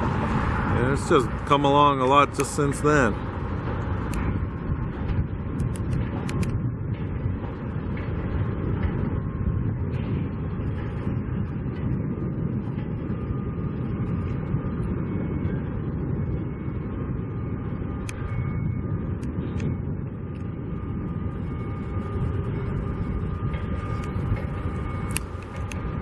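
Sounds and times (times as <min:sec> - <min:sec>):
faint high machinery tone: 0:00.0 - 0:26.0
wind buffeting microphone: 0:00.0 - 0:26.0.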